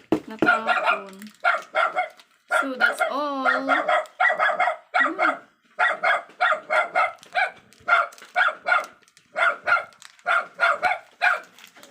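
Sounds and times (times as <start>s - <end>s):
small dog yapping: 0.5s - 11.5s.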